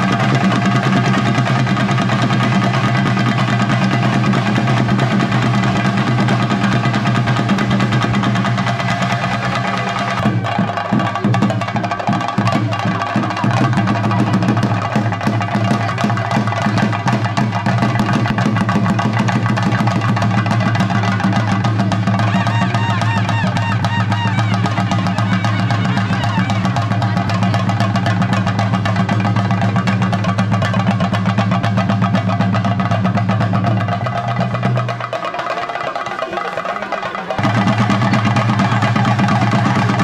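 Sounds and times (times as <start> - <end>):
drum music: 0.0 - 40.0.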